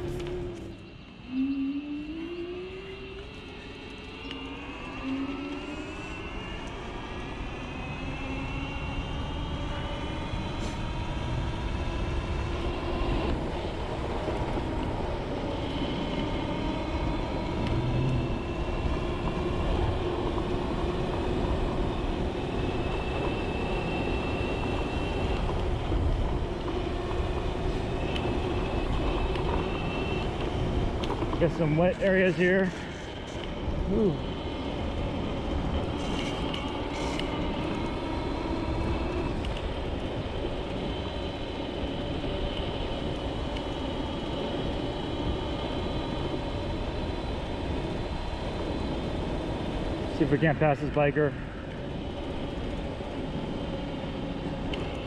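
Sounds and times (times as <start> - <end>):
electric scooter motor whining: 0.0 - 55.0
wind and road noise: 0.0 - 55.0.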